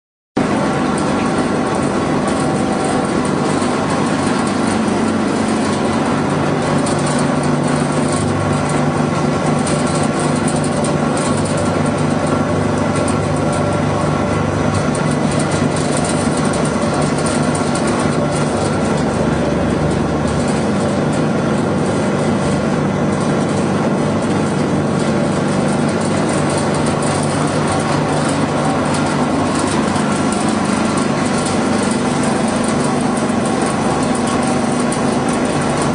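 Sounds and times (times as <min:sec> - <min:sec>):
pellet machine humming: 0:00.4 - 0:35.9.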